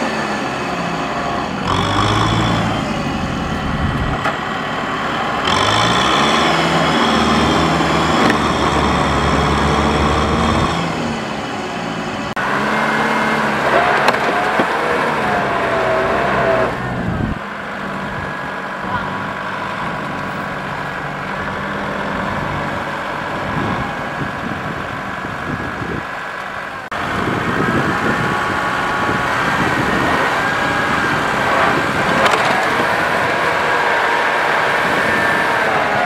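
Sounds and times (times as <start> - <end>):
diesel tractor engines under load: 0.0 - 36.0.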